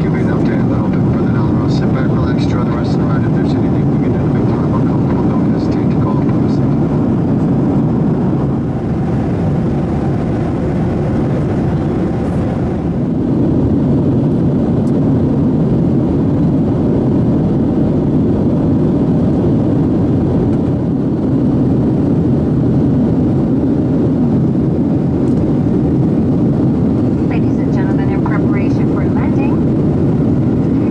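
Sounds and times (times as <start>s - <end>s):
jet engines in airplane cabin: 0.0s - 30.9s.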